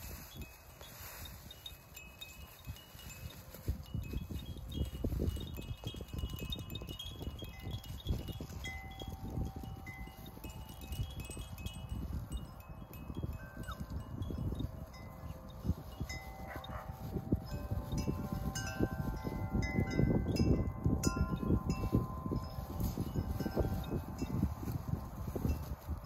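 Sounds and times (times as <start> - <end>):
wind chimes ringing: 0.0 - 26.0.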